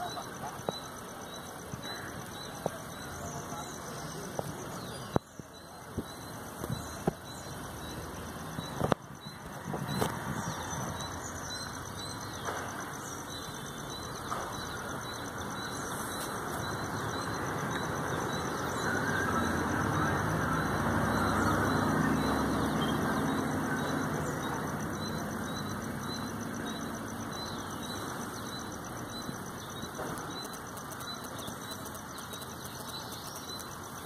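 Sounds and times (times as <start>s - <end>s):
steady outdoor hum: 0.0s - 34.0s.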